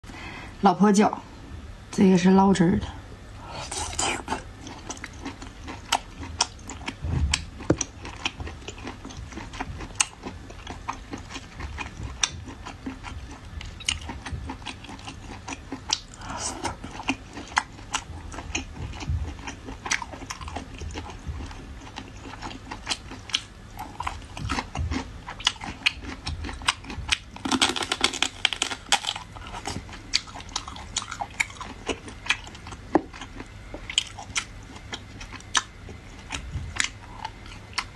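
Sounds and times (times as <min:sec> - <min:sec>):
wet chewing and sucking: 0:03.6 - 0:37.9.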